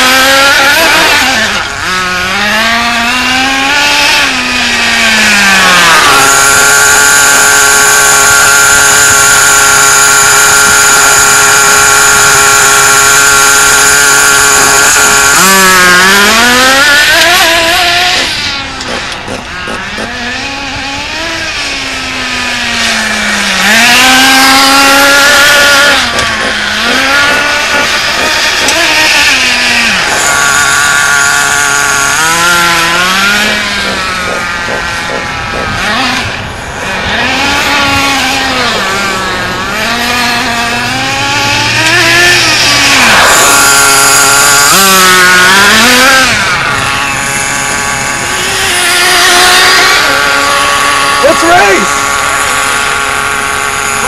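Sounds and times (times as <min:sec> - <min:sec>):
nitro engine whine and revving: 0:00.0 - 0:54.0.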